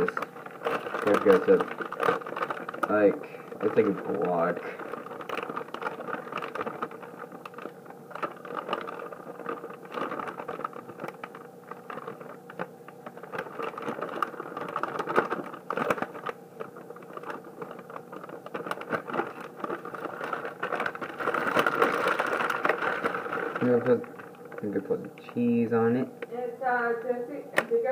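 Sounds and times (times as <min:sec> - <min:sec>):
hands crumbling cheese: 0:00.0 - 0:25.4.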